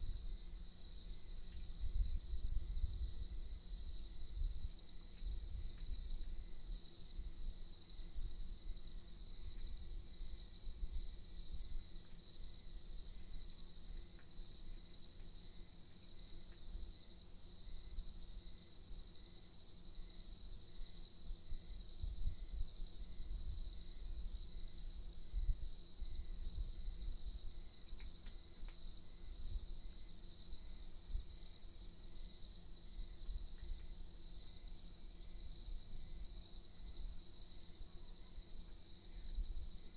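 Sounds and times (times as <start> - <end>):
crickets chirping: 0.0 - 39.9
slower faint chirp: 0.0 - 39.9.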